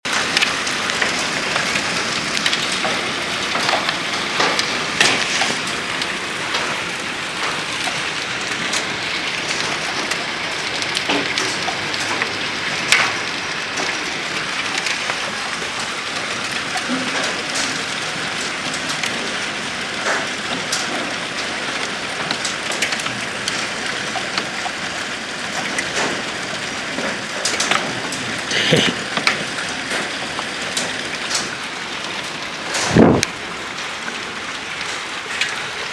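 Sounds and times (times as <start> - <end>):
hail falling: 0.0 - 35.9
heavy rain: 0.0 - 35.9
hailstones clicking: 0.1 - 35.9.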